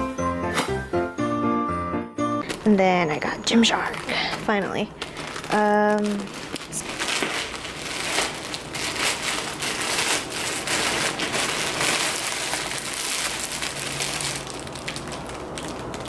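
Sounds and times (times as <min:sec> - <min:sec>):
plastic bag crinkling: 0:02.4 - 0:16.0.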